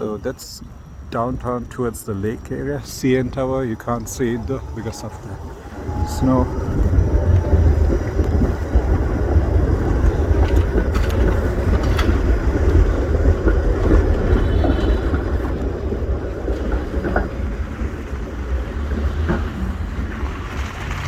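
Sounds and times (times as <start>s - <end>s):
faint street traffic: 0.0s - 21.0s
wind buffeting microphone: 0.0s - 21.0s.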